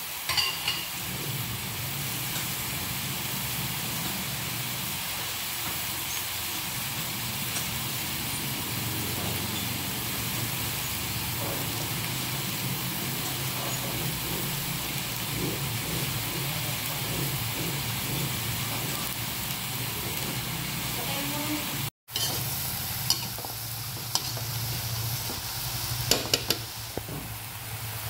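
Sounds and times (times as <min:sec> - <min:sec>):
vegetables cooking in a pan: 0:00.0 - 0:28.0.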